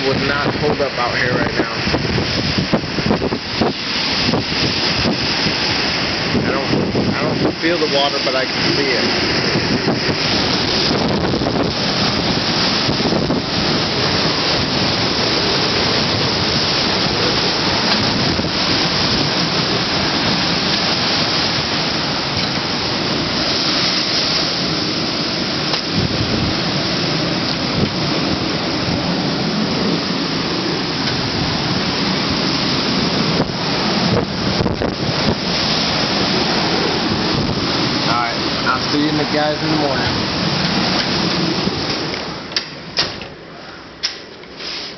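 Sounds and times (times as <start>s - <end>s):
wind buffeting microphone: 0.0s - 44.0s
strong wind roaring: 0.0s - 44.6s
driving rain: 0.0s - 44.9s.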